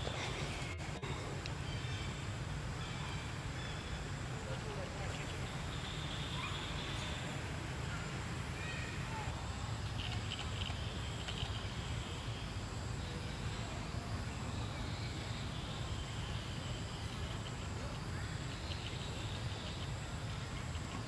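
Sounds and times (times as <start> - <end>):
high rapidly pulsing buzz: 0.0 - 21.0.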